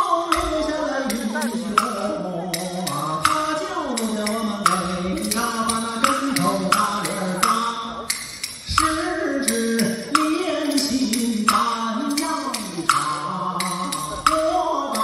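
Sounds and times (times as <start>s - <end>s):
man singing folk tune: 0.0s - 15.0s.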